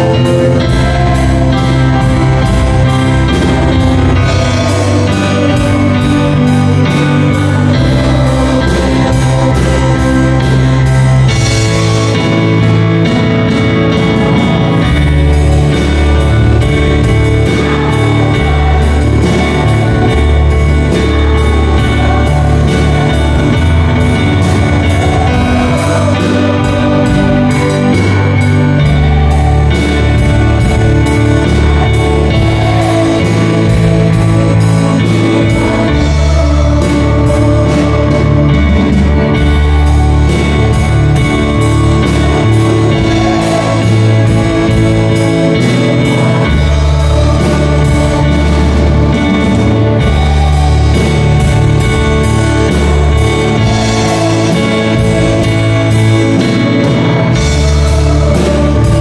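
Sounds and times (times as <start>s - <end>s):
bass line: 0.0s - 59.0s
drums with steady beat: 0.0s - 59.0s
electronic keyboard: 0.0s - 59.0s.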